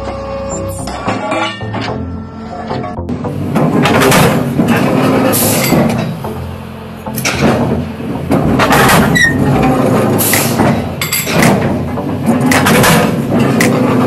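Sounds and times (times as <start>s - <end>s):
steel plate grinding and clanking: 0.0s - 6.4s, 7.1s - 14.0s
metal press humming: 0.0s - 14.0s.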